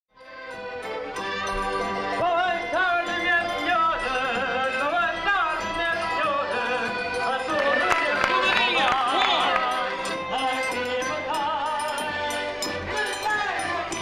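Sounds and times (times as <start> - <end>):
folk music with singing voice: 0.2 - 14.0.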